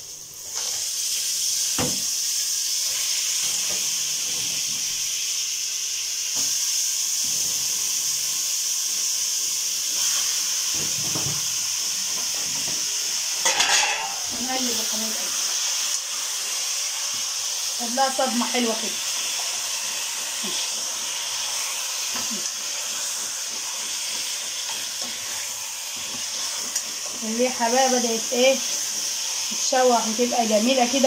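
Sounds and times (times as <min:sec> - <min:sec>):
chicken sizzling in hot fat: 0:00.0 - 0:31.0.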